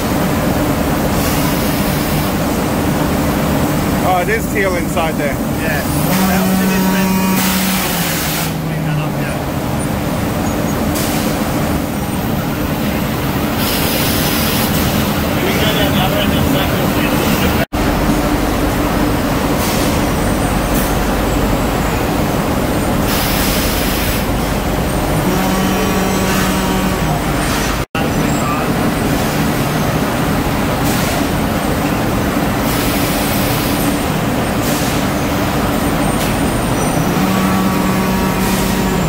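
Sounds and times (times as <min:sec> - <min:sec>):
factory machinery droning: 0:00.0 - 0:39.0.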